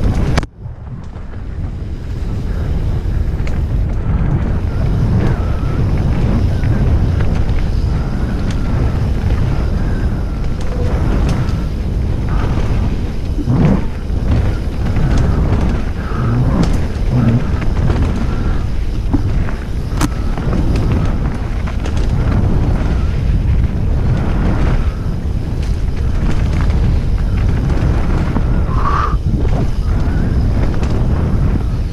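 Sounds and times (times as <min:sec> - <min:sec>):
wind buffeting a microphone: 0:00.0 - 0:31.9.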